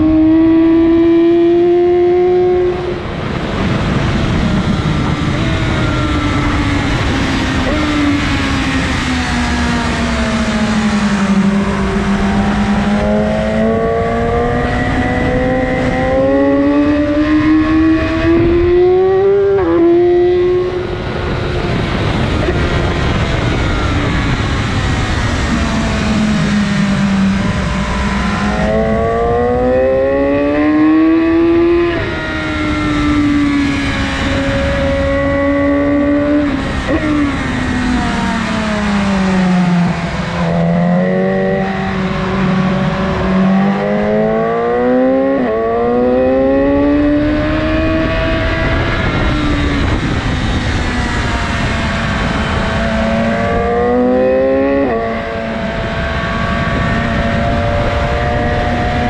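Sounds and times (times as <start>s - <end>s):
motorcycle engine at full throttle: 0.0s - 59.0s.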